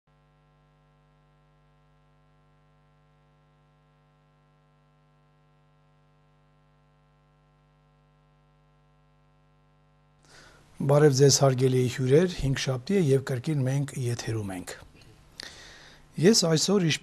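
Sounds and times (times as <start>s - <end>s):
faint electrical hum: 0.1s - 17.0s.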